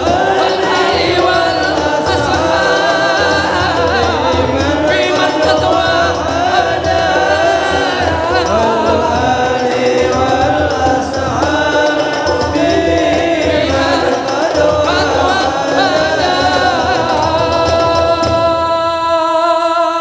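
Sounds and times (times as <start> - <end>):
low rhythmic accompaniment: 0.0 - 18.8
men singing together: 0.0 - 20.0.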